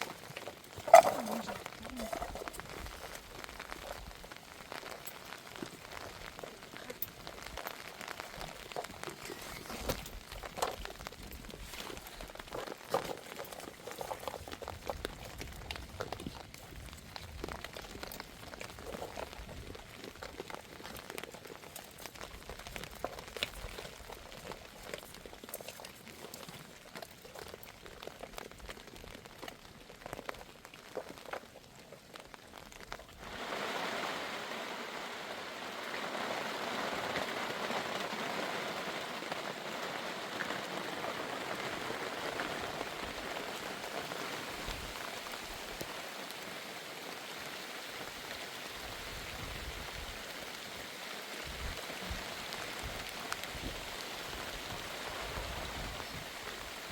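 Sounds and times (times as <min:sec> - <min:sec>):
heavy rain pouring: 0:00.0 - 0:25.6, 0:28.0 - 0:56.9.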